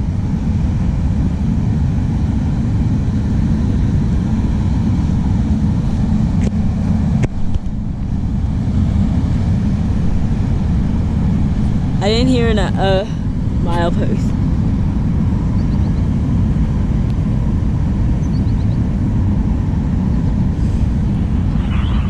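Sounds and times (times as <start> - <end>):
wind buffeting microphone: 0.0 - 22.0
freight train cars rumbling past: 2.9 - 22.0.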